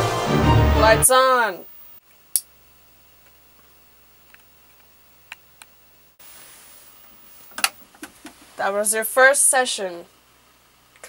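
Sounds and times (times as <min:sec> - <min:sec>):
television static hiss: 0:00.9 - 0:11.0.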